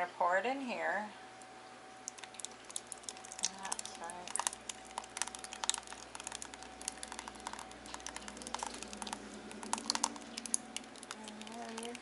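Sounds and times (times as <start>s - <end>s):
pie filling pouring with light clicks: 2.0s - 12.0s.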